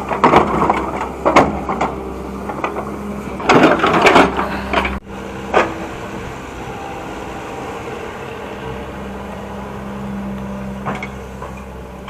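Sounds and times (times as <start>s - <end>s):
excavator clunking and scraping: 0.0s - 12.0s
excavator engine hum: 0.0s - 12.0s.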